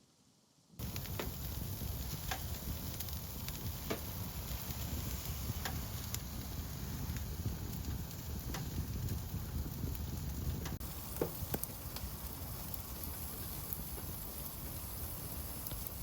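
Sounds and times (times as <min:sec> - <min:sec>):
stove fire hiss and rumble: 0:00.1 - 0:16.0
fire crackling and popping: 0:00.8 - 0:16.0.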